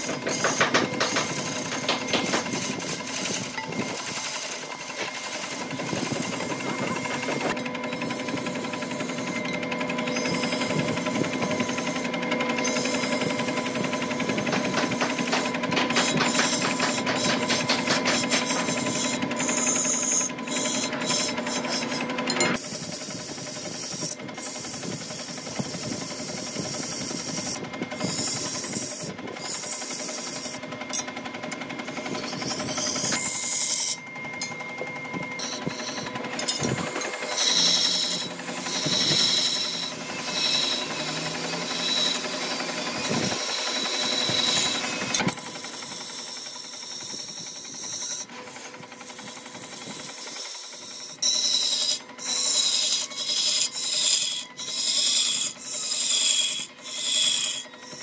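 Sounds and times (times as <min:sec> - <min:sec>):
woodworking power tools on wood: 0:00.0 - 0:58.0.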